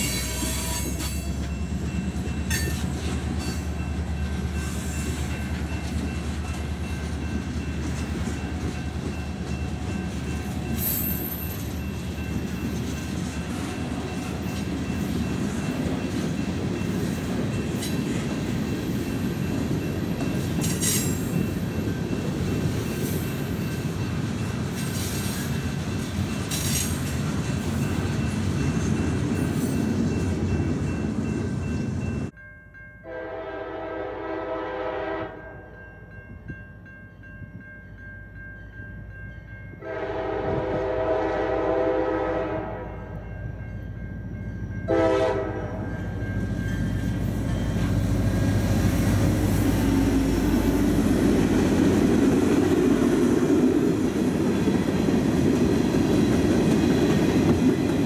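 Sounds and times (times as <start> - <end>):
steel wheels rumbling on rails: 0.0 - 32.4, 39.8 - 58.0.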